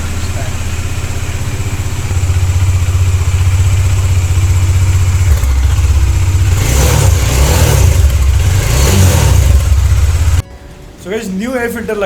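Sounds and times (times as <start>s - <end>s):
motorcycle engine idling and revving: 0.0s - 10.4s.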